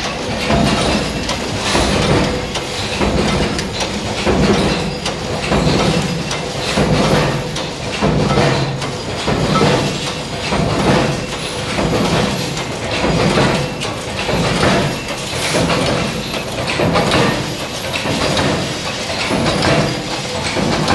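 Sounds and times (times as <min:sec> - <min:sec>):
forging machines clattering: 0:00.0 - 0:20.9.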